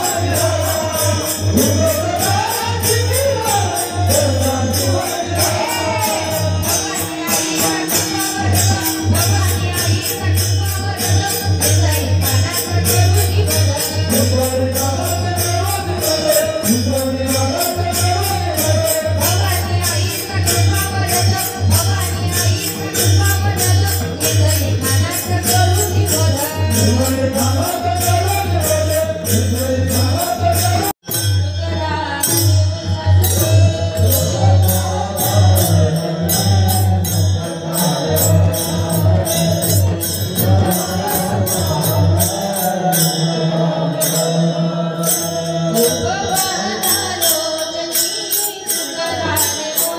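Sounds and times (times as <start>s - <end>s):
group singing over pa system: 0.0s - 30.9s, 31.6s - 49.9s
tambourine jingling: 0.0s - 49.9s.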